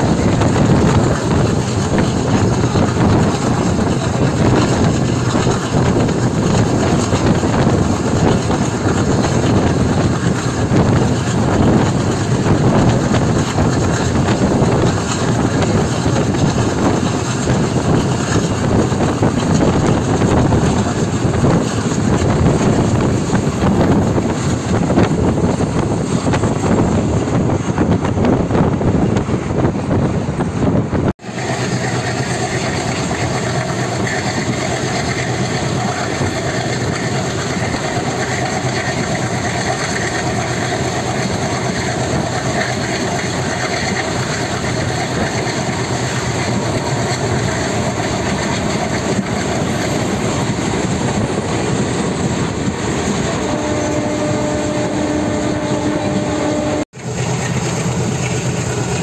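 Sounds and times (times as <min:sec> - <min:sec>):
train rumble and hiss: 0:00.0 - 0:59.0.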